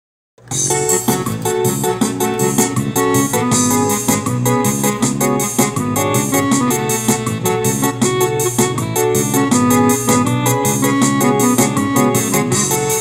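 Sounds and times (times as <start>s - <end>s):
keyboard chords: 0.4s - 13.0s
steady beat: 0.4s - 13.0s.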